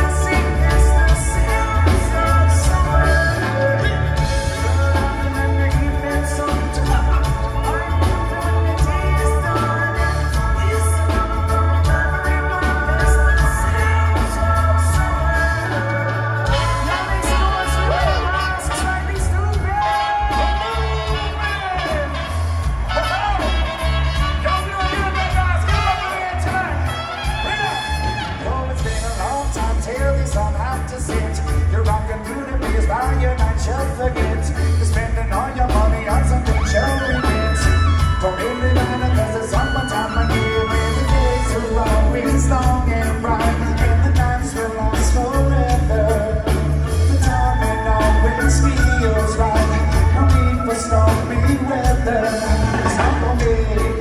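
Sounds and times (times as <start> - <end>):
heavy pulsing bass line: 0.0 - 54.0
live reggae band: 0.0 - 54.0
person singing: 0.0 - 54.0
steady drum beat: 0.0 - 54.0.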